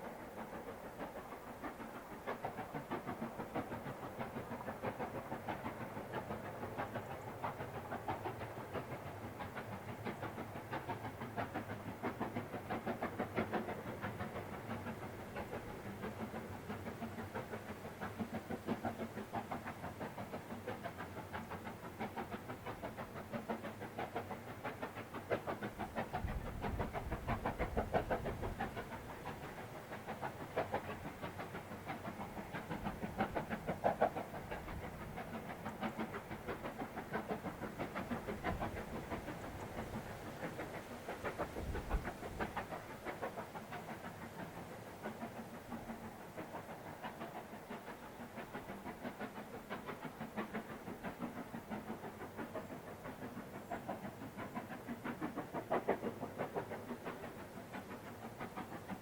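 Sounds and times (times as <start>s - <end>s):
steam locomotive chugging: 0.0s - 59.0s.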